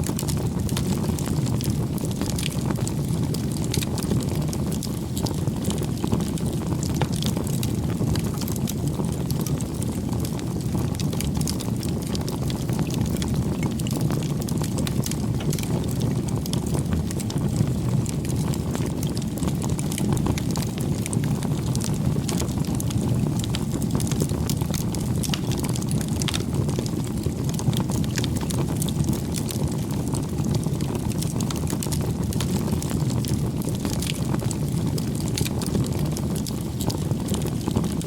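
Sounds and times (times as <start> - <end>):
burning wood crackling and popping: 0.0 - 38.0
campfire flame rumble: 0.0 - 38.0.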